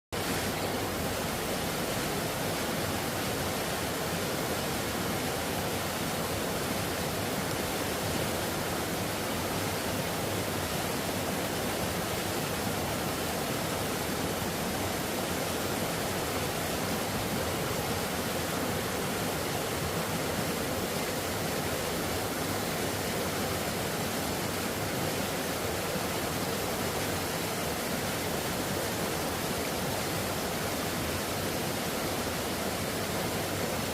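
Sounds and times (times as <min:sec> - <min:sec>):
stream rushing: 0:00.2 - 0:33.9.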